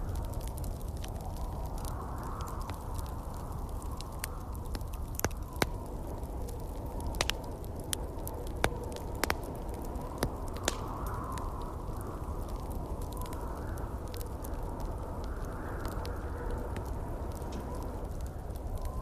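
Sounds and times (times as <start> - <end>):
low rush of wind: 0.0 - 19.0
wood fire crackling and popping: 0.0 - 19.0.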